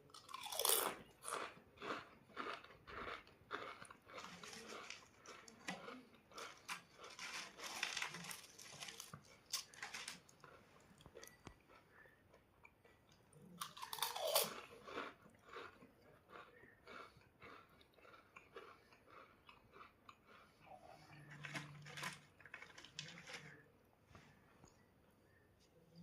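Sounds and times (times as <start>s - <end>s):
person crunching crisps: 0.1s - 11.8s, 13.4s - 23.6s.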